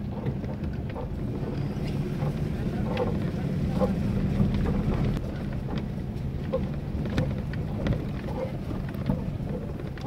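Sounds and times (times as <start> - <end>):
vehicle engine at low speed: 0.0 - 10.0.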